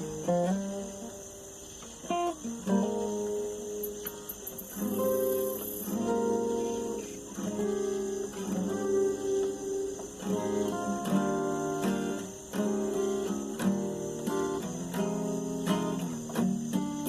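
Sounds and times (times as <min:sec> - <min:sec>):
acoustic guitar chords strummed: 0:00.0 - 0:17.0.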